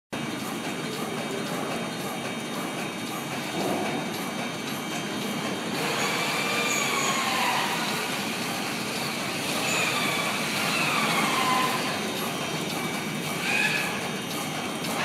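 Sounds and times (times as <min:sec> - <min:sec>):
cutting machine running: 0:00.2 - 0:15.0.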